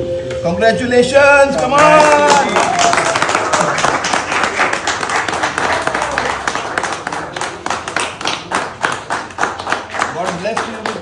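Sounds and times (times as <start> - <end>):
people clapping: 1.4 - 11.0.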